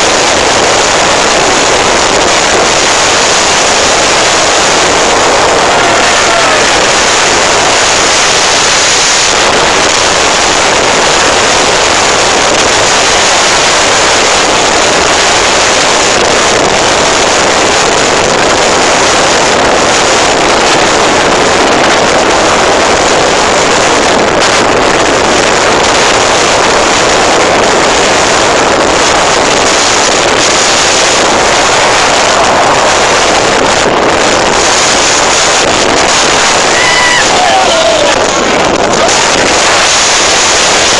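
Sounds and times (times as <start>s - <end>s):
rough sea and spray breaking: 0.0s - 40.9s
strong wind blasting microphone: 0.0s - 40.9s.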